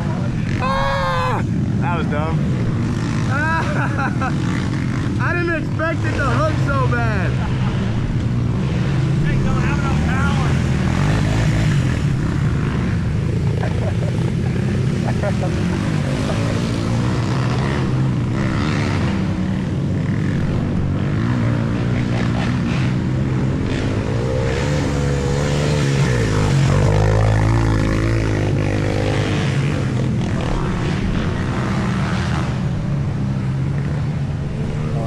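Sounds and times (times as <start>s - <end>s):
quad engine running: 0.0s - 35.0s.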